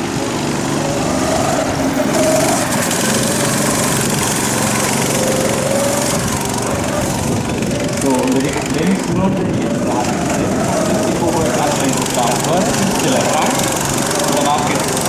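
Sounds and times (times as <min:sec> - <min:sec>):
kart engine revving: 0:00.0 - 0:15.0.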